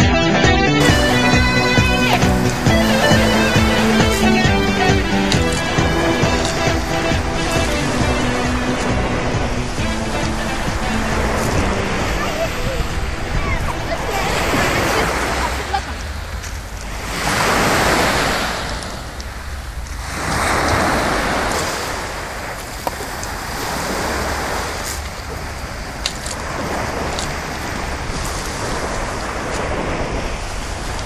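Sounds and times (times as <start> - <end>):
waves breaking on pebble shore: 0.8 - 31.0
wind rumble on microphone: 0.8 - 31.0.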